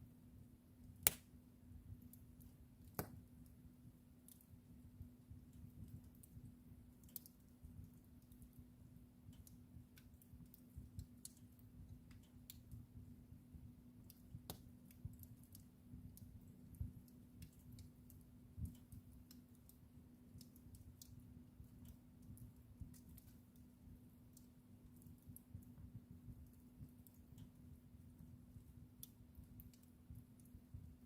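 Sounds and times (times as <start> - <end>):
low steady hum: 0.0 - 31.0
wood fire crackling: 0.1 - 31.0.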